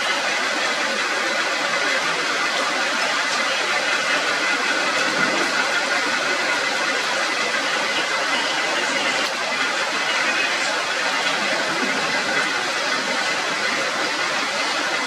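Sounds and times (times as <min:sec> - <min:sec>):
heavy rain on foliage: 0:00.0 - 0:15.0.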